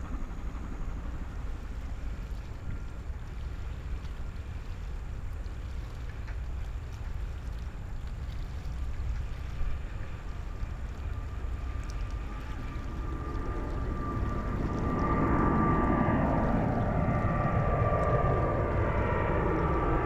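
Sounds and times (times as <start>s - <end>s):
distant airliner taking off: 0.0s - 20.0s
faint jet engine whine: 0.0s - 20.0s.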